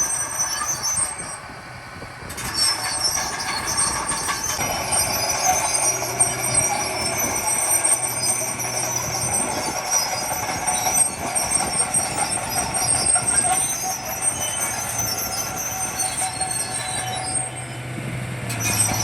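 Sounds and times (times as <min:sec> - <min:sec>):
continuous mechanical din: 0:00.0 - 0:19.0
low engine hum: 0:00.0 - 0:19.0
steel tracks squealing: 0:00.0 - 0:19.0.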